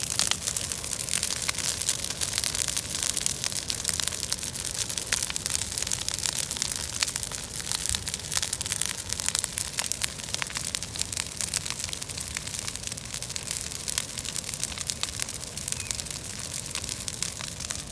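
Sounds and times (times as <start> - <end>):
bonfire crackling and popping: 0.0 - 17.9.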